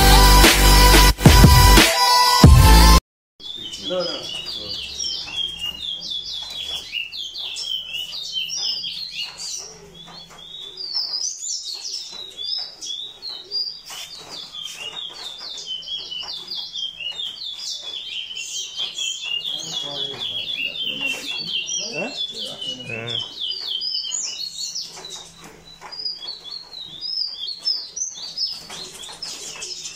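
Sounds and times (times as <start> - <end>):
caged songbirds chirping and trilling: 3.4 - 29.9.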